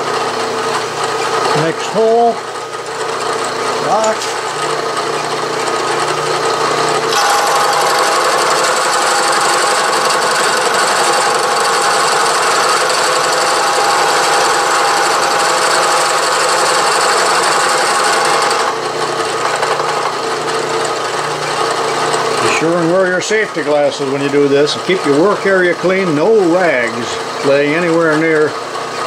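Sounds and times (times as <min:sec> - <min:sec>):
gear cutter cutting steel: 0:00.0 - 0:29.0
milling spindle humming: 0:00.0 - 0:29.0.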